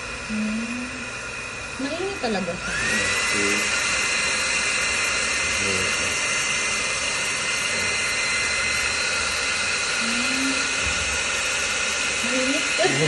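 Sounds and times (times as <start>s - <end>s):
small fan motor whirring: 0.0s - 13.0s.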